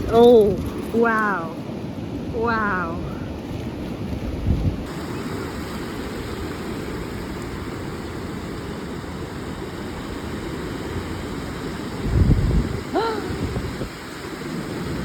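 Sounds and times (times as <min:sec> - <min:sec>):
ocean surf rushing: 0:00.0 - 0:04.2, 0:04.8 - 0:15.0
wind buffeting microphone: 0:00.0 - 0:15.0.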